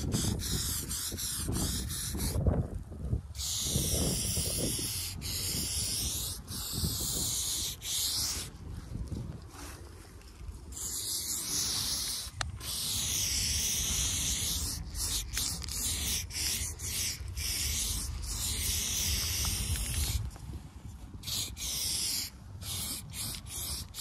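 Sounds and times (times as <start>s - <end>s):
spray paint can hissing: 0.0s - 2.4s, 3.4s - 8.5s, 10.7s - 20.3s, 21.2s - 24.0s.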